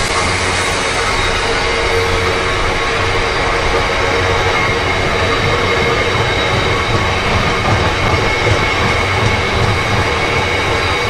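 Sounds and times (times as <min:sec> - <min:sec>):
high-pitched ringing tone: 0:00.0 - 0:11.0
train wagon wheels rumbling: 0:00.0 - 0:11.0.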